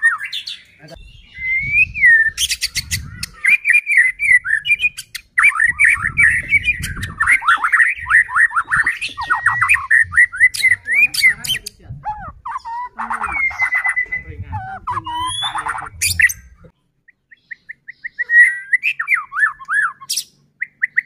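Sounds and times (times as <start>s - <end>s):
bird singing whistled song: 0.0s - 21.0s.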